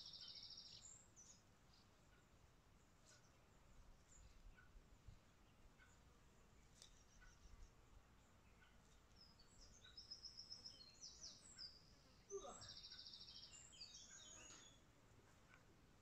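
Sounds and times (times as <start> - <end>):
songbird chirping and trilling: 0.0 - 15.7.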